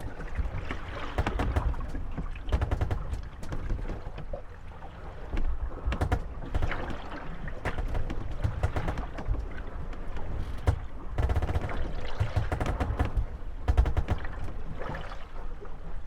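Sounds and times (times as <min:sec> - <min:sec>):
boat hulls knocking and creaking: 0:00.0 - 0:15.9
water lapping at boats: 0:00.0 - 0:16.0.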